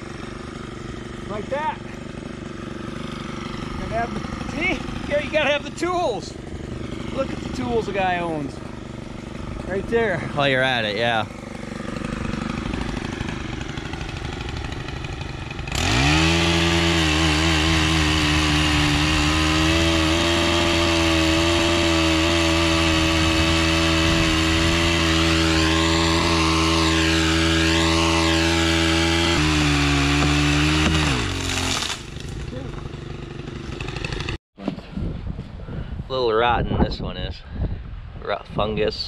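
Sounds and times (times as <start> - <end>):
chainsaw revving: 0.0 - 34.4.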